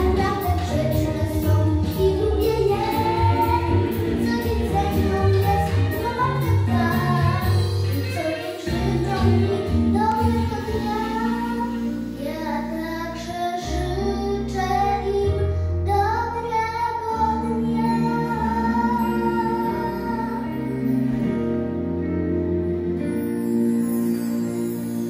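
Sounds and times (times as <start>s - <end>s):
girl singing: 0.0s - 20.9s
instrumental accompaniment with bass: 0.0s - 25.0s.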